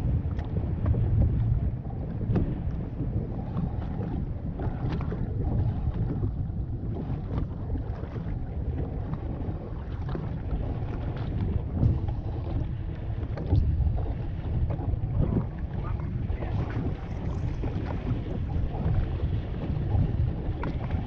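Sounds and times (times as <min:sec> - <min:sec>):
low rumble: 0:00.0 - 0:21.0
waves lapping against boat hull: 0:00.0 - 0:21.0
wind buffeting microphone: 0:00.0 - 0:21.0.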